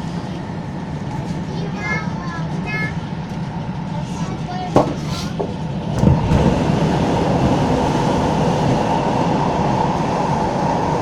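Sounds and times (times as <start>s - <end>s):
metro train rumbling on track: 0.0s - 11.0s.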